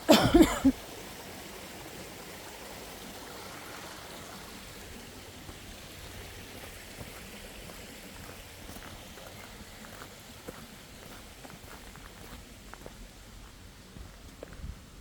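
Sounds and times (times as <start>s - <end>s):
stream rushing: 0.0s - 14.2s.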